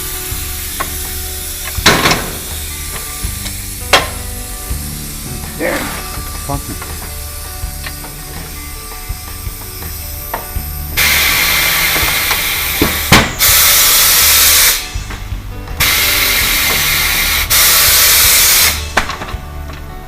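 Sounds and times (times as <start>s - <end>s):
compressed air hissing: 0.0s - 19.3s.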